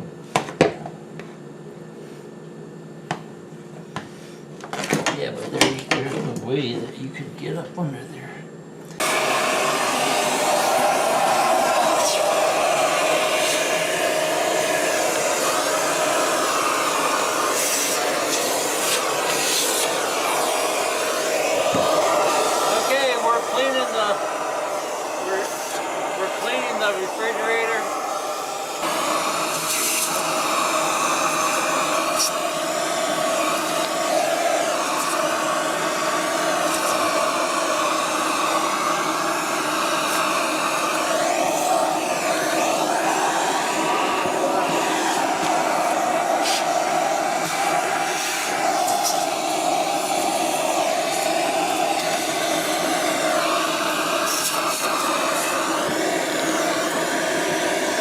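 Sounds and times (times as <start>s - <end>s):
electric fan whirring: 0.0s - 58.0s
electric blower rushing air: 8.9s - 58.0s.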